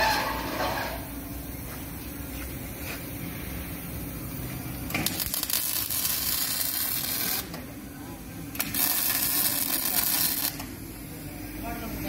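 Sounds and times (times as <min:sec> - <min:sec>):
welding arc crackling and sizzling: 0:00.0 - 0:12.0.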